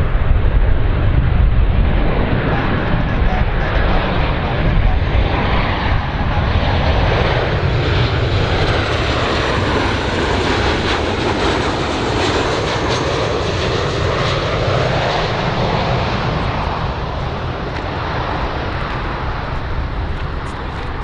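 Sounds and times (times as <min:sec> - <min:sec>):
jet engine rushing with high whine: 0:00.0 - 0:21.0.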